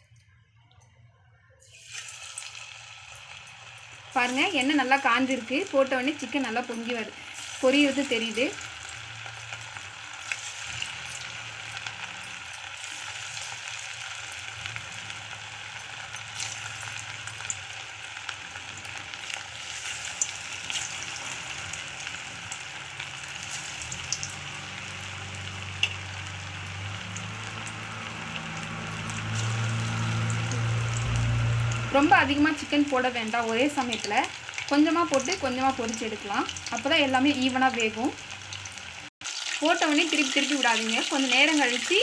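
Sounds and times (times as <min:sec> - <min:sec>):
chicken deep-frying in oil: 0:01.6 - 0:42.0
oil crackling and popping: 0:01.7 - 0:42.0.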